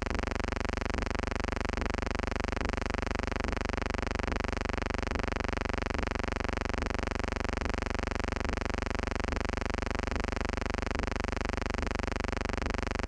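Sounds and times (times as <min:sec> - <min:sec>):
steady buzzing hum: 0:00.0 - 0:13.0.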